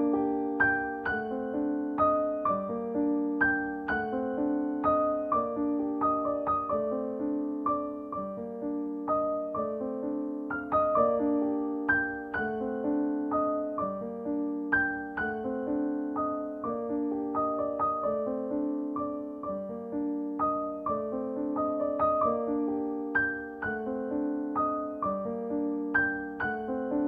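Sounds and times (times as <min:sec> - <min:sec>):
piano melody: 0:00.0 - 0:27.0.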